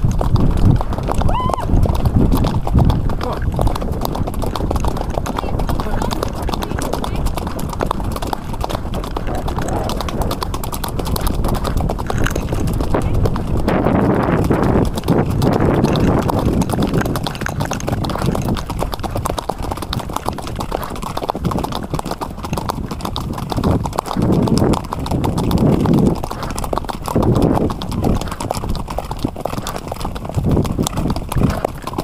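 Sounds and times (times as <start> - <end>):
horse hooves clopping: 0.0 - 32.0.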